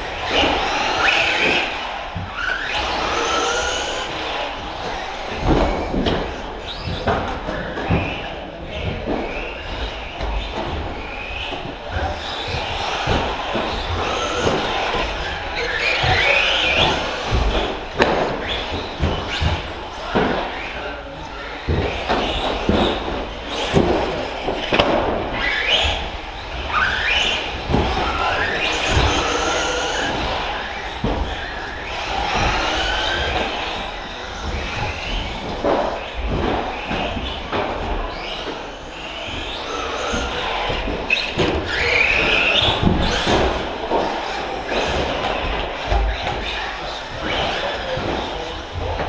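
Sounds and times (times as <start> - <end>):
electric motors whining: 0.0 - 49.0.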